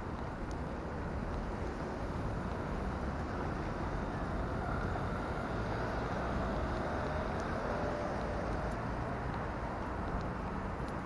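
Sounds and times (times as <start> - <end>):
cars driving past: 1.4 - 11.0.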